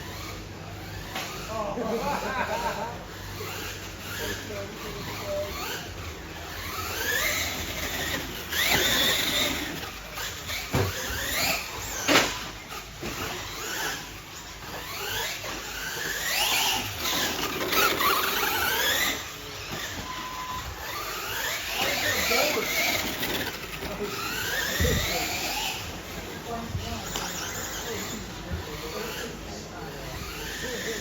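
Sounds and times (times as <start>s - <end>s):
electric motors whining: 0.0s - 31.0s.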